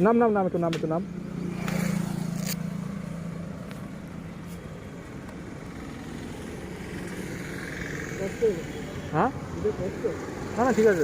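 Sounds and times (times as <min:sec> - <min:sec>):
road noise rumbling: 0:00.0 - 0:11.0
vehicle engine humming: 0:00.0 - 0:11.0.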